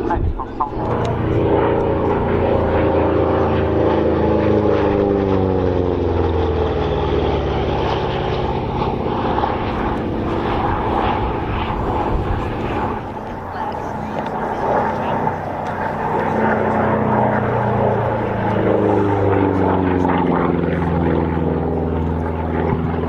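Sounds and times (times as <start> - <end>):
propeller plane flying past: 0.0 - 23.0.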